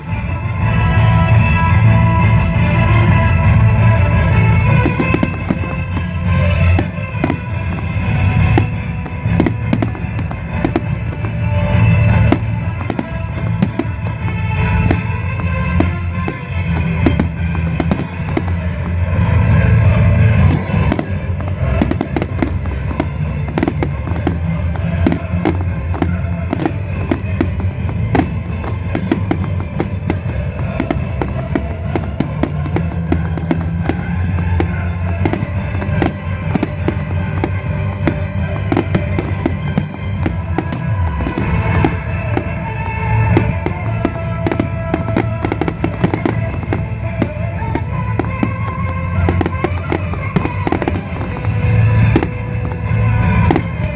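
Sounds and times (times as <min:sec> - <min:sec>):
fireworks bangs and crackles: 0:00.0 - 0:53.9
music playing: 0:00.0 - 0:53.9.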